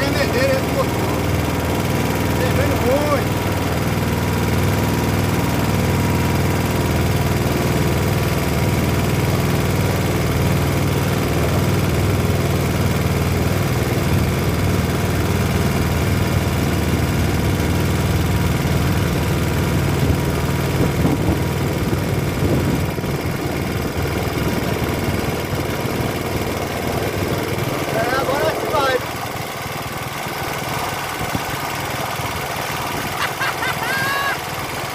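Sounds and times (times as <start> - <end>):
small petrol engine running: 0.0 - 34.9.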